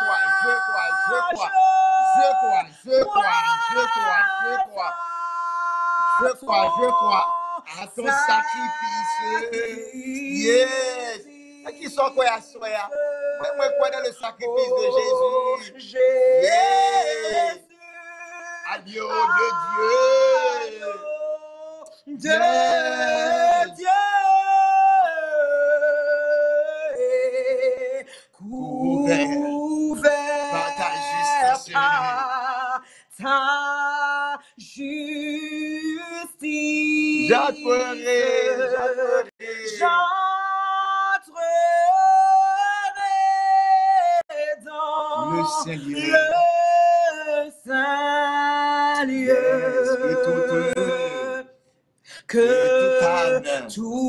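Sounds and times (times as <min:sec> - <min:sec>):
man and woman singing hymn: 0:00.0 - 0:54.0.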